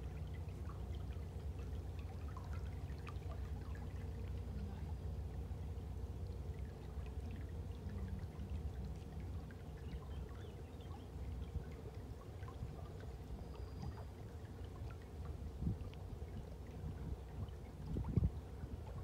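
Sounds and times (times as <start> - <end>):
boat engine rumble: 0.0 - 19.0
water splashing at boat bow: 0.0 - 19.0.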